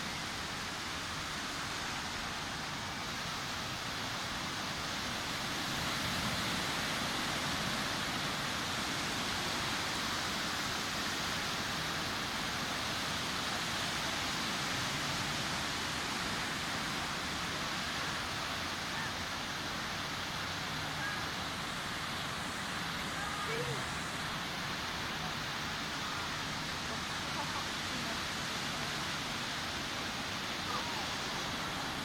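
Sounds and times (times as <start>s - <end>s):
sea waves breaking on beach: 0.0s - 32.0s.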